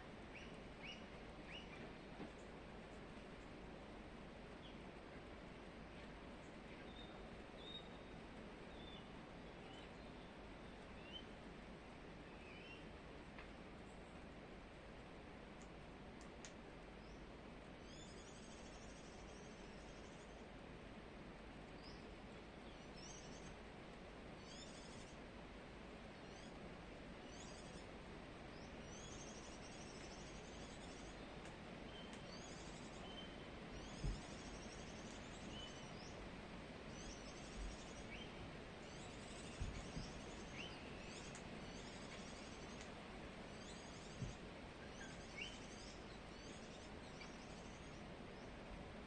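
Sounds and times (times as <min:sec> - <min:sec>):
steady low hiss: 0:00.0 - 0:49.0.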